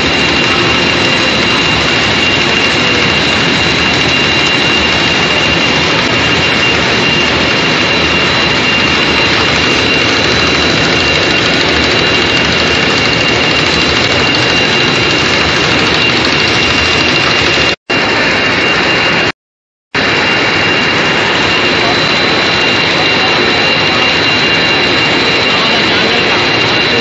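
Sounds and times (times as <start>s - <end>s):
machinery roaring: 0.0s - 19.3s, 20.0s - 27.0s
high steady whines: 0.0s - 19.4s, 20.0s - 27.0s.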